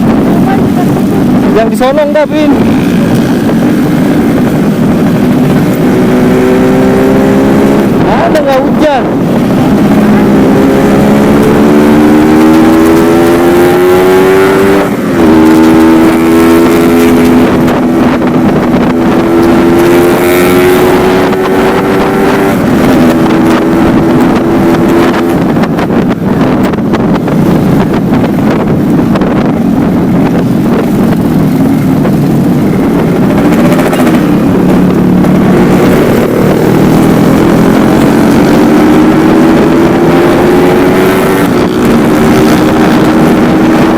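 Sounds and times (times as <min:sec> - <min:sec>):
motorcycle engine revving: 0:00.0 - 0:43.9
wind on microphone: 0:00.0 - 0:43.9.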